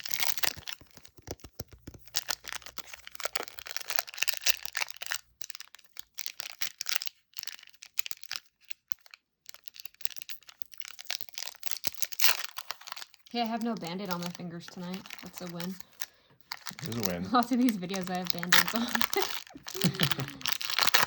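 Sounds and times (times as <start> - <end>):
foil wrapper crinkling and tearing: 0.0 - 21.0.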